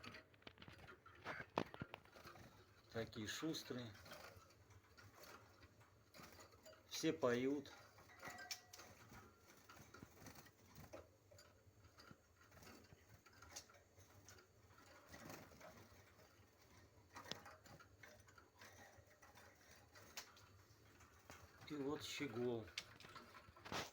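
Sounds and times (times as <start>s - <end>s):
songbirds moving in cages: 0.0s - 23.9s.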